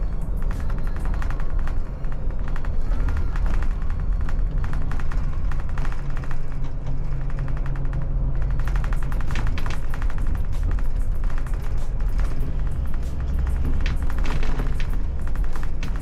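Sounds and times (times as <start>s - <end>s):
low drone: 0.0s - 16.0s.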